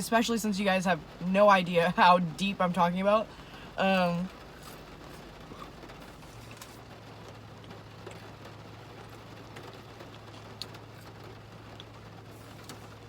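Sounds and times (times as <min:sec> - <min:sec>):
low steady hum: 0:00.0 - 0:13.0
rain on car roof: 0:00.0 - 0:13.0.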